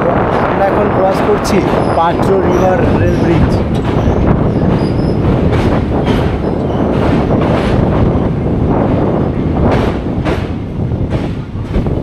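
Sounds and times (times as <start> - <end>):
train wheels rumbling on rails: 0.0 - 12.0
wind buffeting microphone: 0.0 - 12.0.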